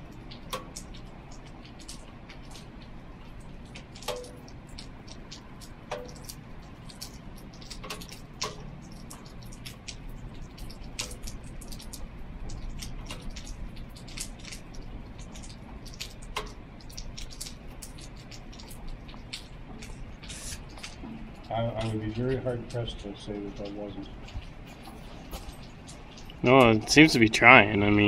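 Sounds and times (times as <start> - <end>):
rainwater dripping: 0.0 - 28.0
steady low background noise: 0.0 - 28.0.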